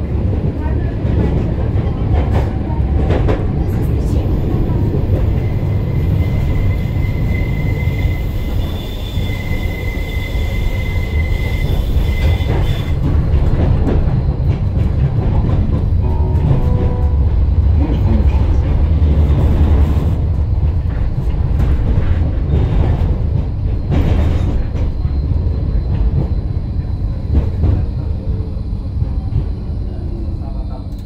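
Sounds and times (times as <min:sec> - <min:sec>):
tram wheels rumbling on rails: 0:00.0 - 0:31.0.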